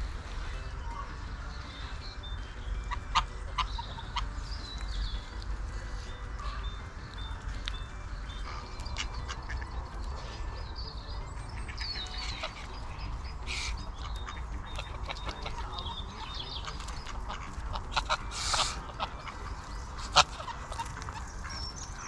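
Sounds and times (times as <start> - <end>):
ducks and geese calling: 0.0 - 22.0
steady low rumble: 0.0 - 22.0
small chirps: 0.5 - 22.0.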